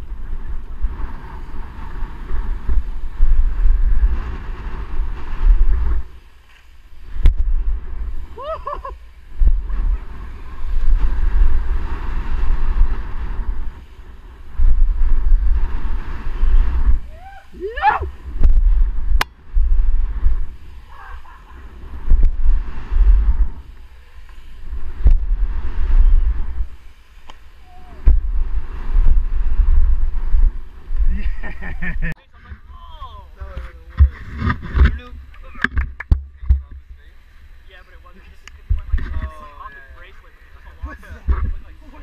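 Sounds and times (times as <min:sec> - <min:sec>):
bike tyres on dirt: 0:00.0 - 0:42.0
wind rushing over microphone: 0:00.0 - 0:42.0.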